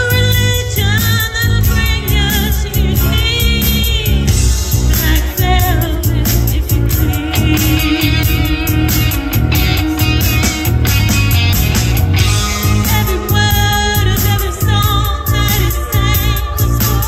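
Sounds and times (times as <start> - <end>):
woman singing into microphone: 0.0 - 10.2, 12.2 - 17.0
amplified backing music: 0.0 - 17.0.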